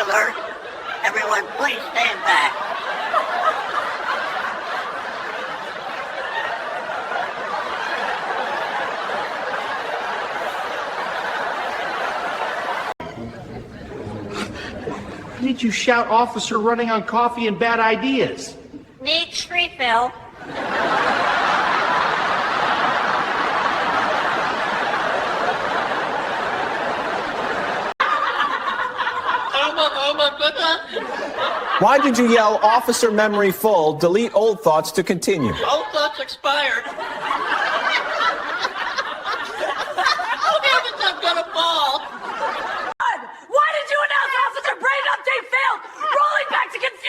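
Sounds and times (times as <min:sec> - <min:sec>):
crowd laughing: 0:00.0 - 0:16.1, 0:20.3 - 0:43.7.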